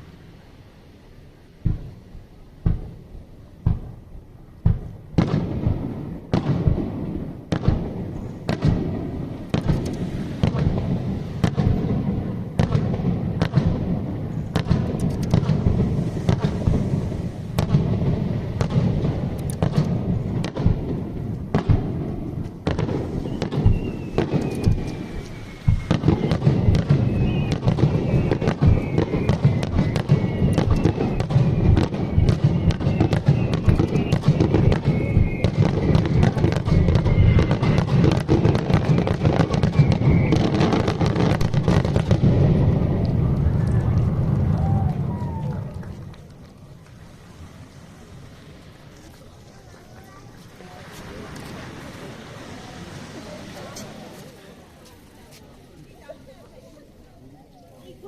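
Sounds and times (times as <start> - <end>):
fireworks bangs and crackling: 0.0 - 58.0
falling firework whistles: 4.6 - 56.1.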